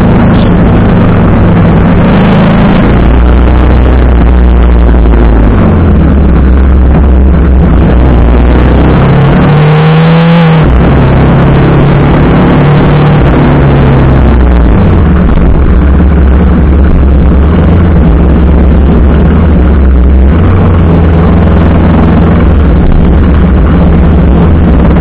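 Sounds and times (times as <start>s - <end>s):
motorcycle engine revving: 0.0s - 25.0s
rushing wind noise: 0.0s - 25.0s.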